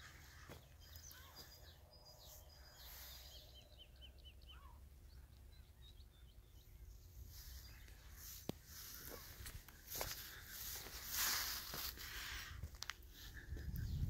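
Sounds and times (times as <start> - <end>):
faint small birds chirping: 0.0 - 14.0.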